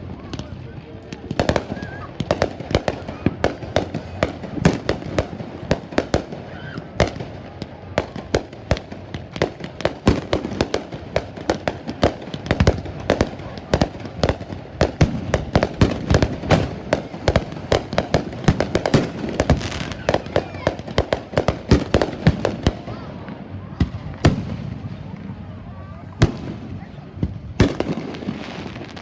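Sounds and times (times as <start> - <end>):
fireworks bangs and cracks: 0.0 - 29.0
low booming: 1.6 - 7.2, 10.1 - 28.8.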